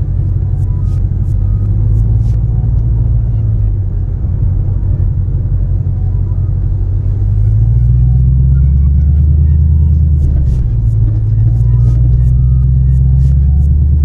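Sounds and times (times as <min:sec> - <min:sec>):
low exhaust rumble: 0:00.0 - 0:14.0.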